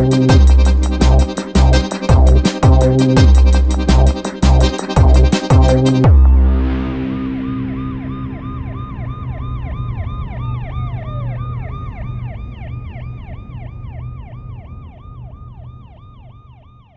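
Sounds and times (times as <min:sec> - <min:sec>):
low hum: 0:00.0 - 0:16.6
siren on fast yelp: 0:00.0 - 0:16.9
siren tone winding down: 0:00.0 - 0:16.9.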